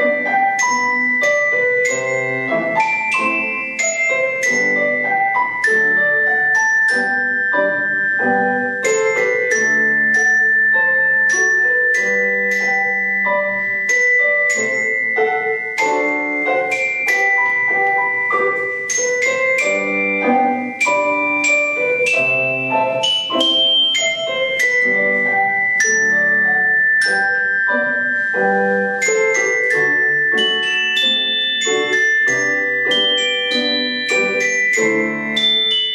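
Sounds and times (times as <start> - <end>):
mallet percussion melody: 0.0 - 35.9.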